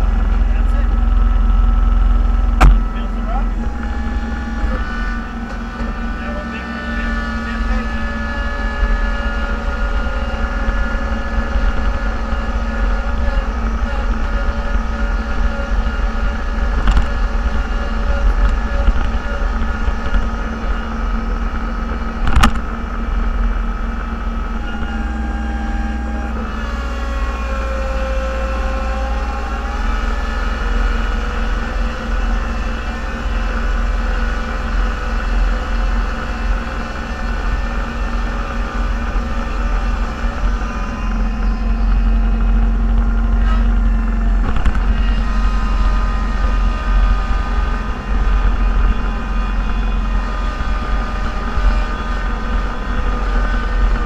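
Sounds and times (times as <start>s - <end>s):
vehicle engine rumbling with whine: 0.0s - 54.0s.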